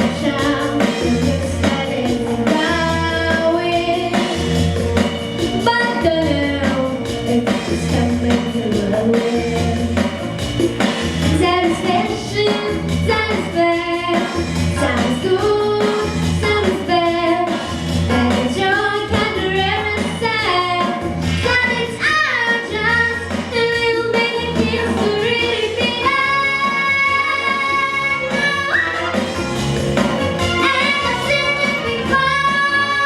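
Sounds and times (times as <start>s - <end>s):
girl singing: 0.0s - 4.4s, 5.5s - 10.0s, 11.2s - 29.0s, 30.6s - 33.0s
musical accompaniment with bass pulse: 0.0s - 33.0s.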